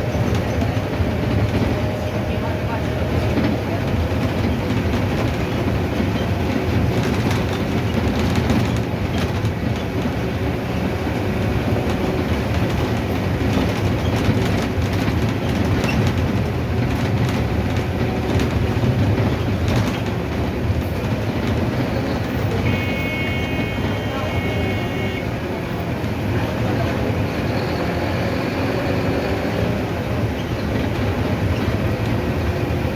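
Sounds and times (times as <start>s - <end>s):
bus body rattling: 0.0s - 32.9s
bus diesel engine and road drone: 0.0s - 32.9s.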